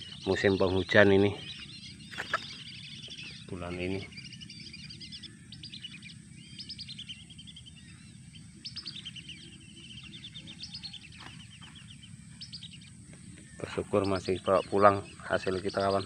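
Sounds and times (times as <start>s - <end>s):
birds chirping trills: 0.0s - 16.0s
steady low rumble: 0.0s - 16.0s.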